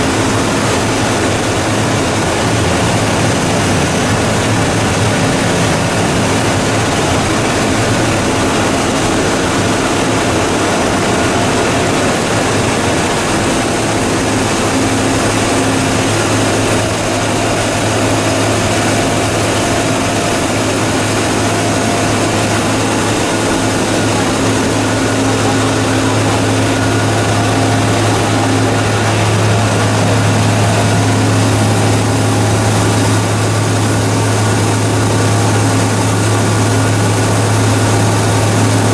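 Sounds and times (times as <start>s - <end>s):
recycling machine humming: 0.0s - 38.9s.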